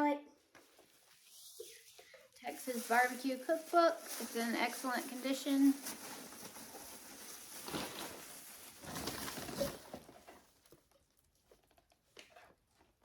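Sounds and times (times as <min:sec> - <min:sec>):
rustling and handling objects: 0:00.4 - 0:13.0.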